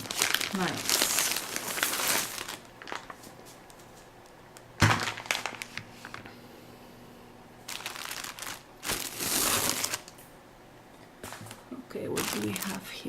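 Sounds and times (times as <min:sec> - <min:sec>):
packaging crinkling: 0:00.0 - 0:06.3, 0:07.6 - 0:10.3, 0:11.2 - 0:13.0.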